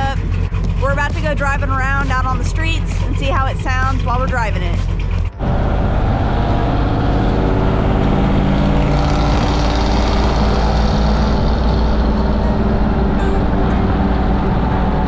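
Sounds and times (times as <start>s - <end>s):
deep exhaust drone: 0.0s - 15.0s.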